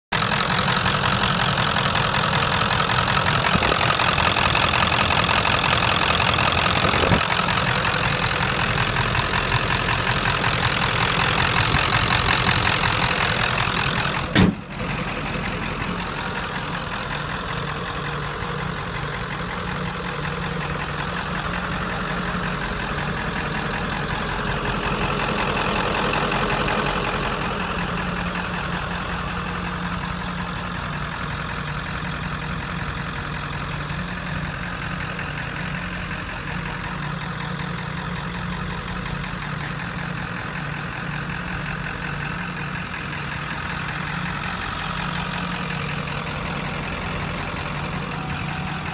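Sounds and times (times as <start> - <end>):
diesel engine idling: 0.1 - 48.9.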